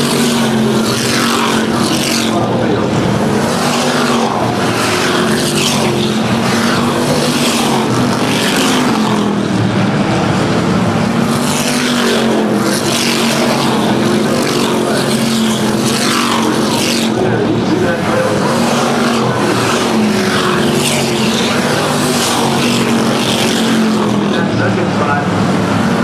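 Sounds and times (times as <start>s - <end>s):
race car engines droning: 0.0s - 26.0s
race cars passing by: 0.0s - 26.0s.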